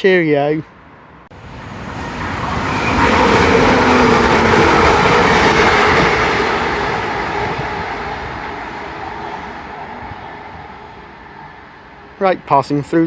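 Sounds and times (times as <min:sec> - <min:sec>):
train engine and wheel noise: 0:00.0 - 0:13.0
train passing at speed: 0:00.8 - 0:13.0.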